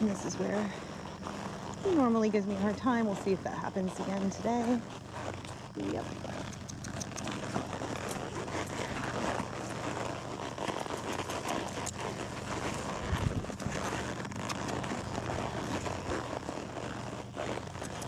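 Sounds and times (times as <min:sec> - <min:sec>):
hoof and tack clicks: 0:00.0 - 0:18.0
steady low hum: 0:00.0 - 0:18.0.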